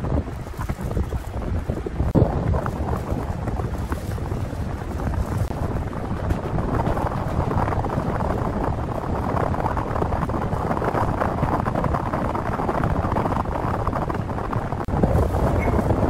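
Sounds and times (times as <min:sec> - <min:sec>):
steady rumbling noise: 0:00.0 - 0:16.0.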